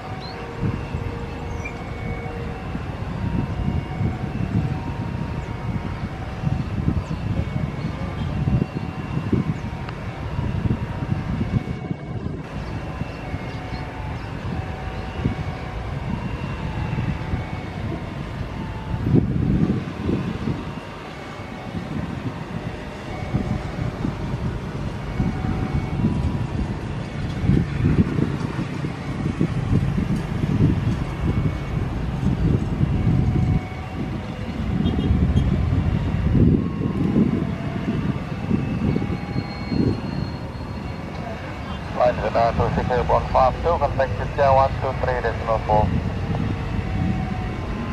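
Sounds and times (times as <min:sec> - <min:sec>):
jet engines running: 0:00.0 - 0:47.9
wind buffeting microphone: 0:00.0 - 0:47.9.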